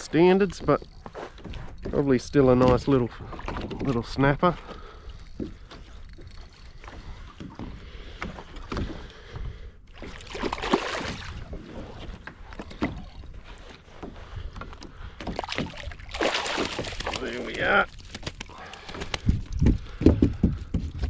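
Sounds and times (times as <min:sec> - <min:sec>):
water lapping around kayak: 0:00.0 - 0:21.0.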